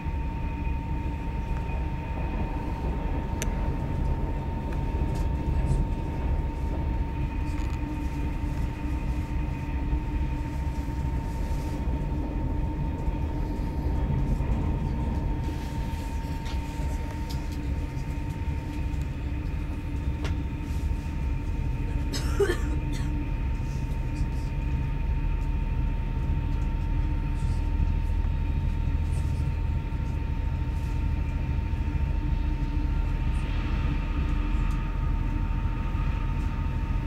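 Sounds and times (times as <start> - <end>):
constant humming tone: 0.0 - 37.0
train running gear rumble: 0.0 - 37.0.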